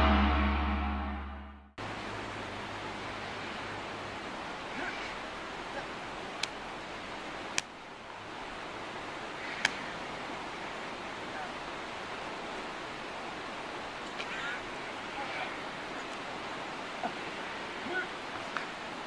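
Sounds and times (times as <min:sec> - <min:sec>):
river rushing: 0:01.8 - 0:19.0.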